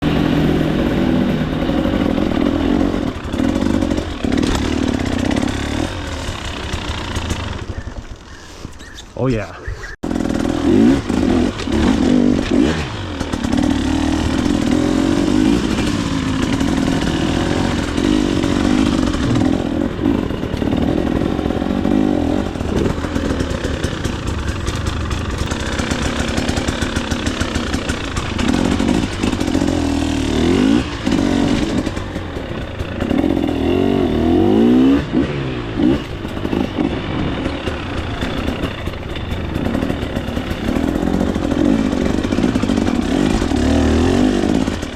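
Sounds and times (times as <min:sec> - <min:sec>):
dirt bike engine revving: 0:00.0 - 0:08.4, 0:10.0 - 0:44.9
bike rattles: 0:00.2 - 0:09.3, 0:10.0 - 0:33.9, 0:35.8 - 0:44.9.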